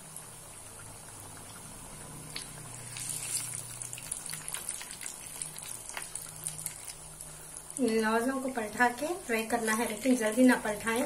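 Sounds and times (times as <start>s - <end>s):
dough deep-frying in oil: 0.0s - 11.0s.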